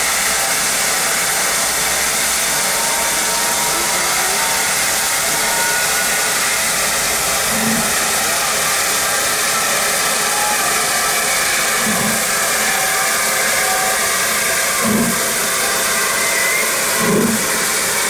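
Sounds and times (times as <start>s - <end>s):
steam hissing from locomotive: 0.0s - 18.0s.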